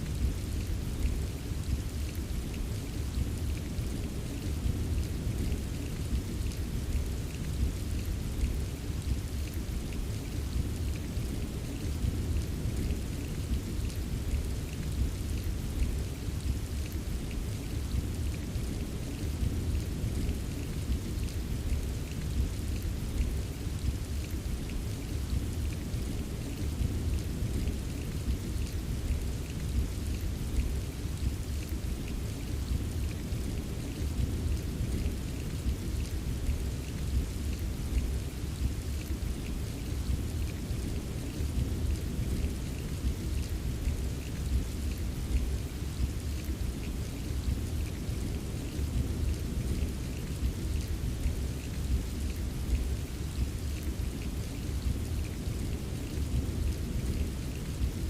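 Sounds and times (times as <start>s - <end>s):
rain drop ticks: 0.0s - 58.0s
steady rainfall: 0.0s - 58.0s.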